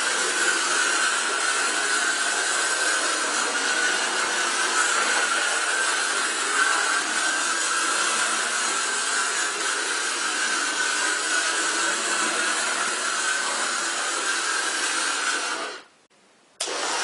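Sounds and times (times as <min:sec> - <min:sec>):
electric motor whine: 0:00.0 - 0:15.9.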